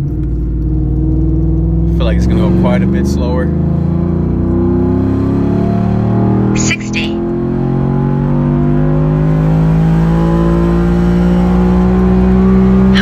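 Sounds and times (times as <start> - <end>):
engine accelerating at full throttle: 0.0 - 13.0.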